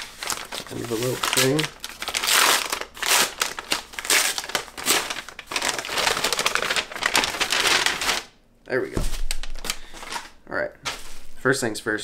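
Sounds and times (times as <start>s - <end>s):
bubble wrap crinkling: 0.0s - 8.4s, 9.0s - 11.4s.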